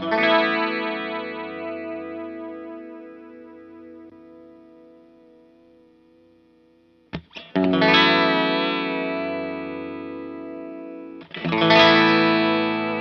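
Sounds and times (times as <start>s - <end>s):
electric guitar chords with chorus: 0.0s - 13.0s.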